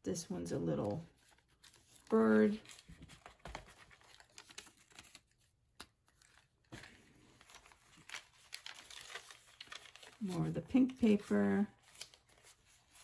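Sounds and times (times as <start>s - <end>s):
paper pages rustling and clicking: 1.1s - 13.0s.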